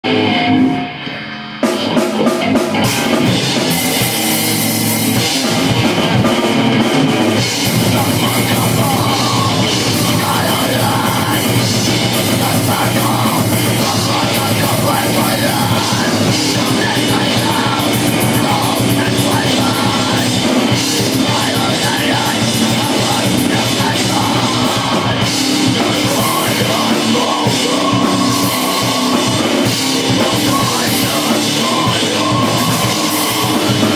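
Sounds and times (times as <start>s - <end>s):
drum kit: 0.0s - 33.9s
heavy rock music: 0.0s - 33.9s.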